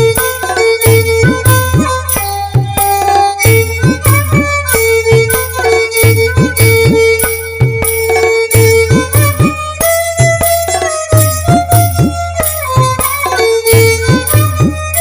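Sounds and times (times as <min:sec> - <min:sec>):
drum with pitch-bending strokes: 0:00.0 - 0:15.0
held melody note: 0:00.0 - 0:15.0.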